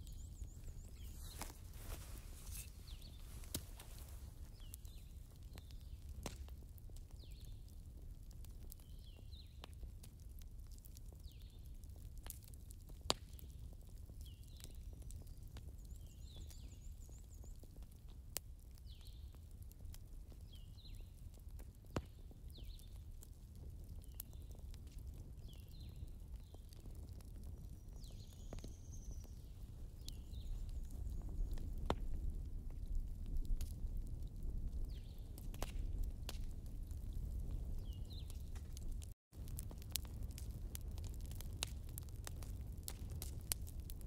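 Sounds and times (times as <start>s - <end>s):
fire crackling: 0.0s - 44.0s.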